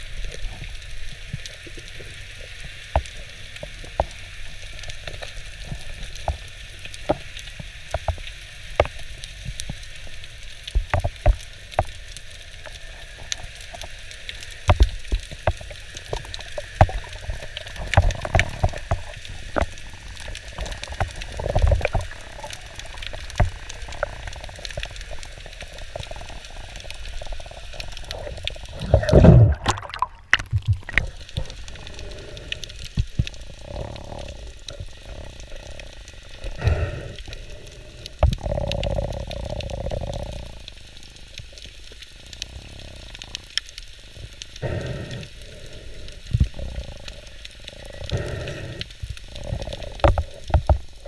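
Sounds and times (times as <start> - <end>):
steady underwater hiss: 0.0 - 51.0
underwater clicks and crackles: 0.0 - 51.0
water gushes: 0.0 - 51.0.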